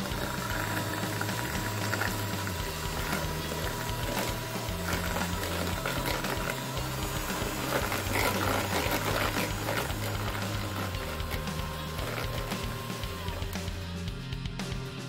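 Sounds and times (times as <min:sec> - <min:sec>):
electric hand mixer running: 0:00.0 - 0:14.2
background music: 0:00.0 - 0:15.0.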